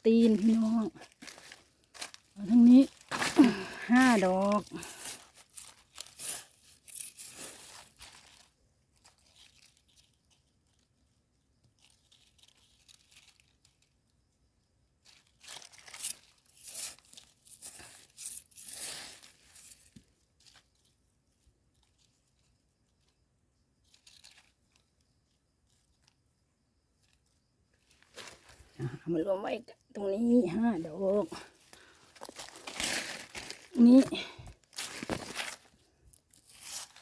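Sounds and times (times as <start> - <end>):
mushrooms rustling and tearing: 0.0 - 14.2, 14.9 - 26.2, 26.9 - 37.0.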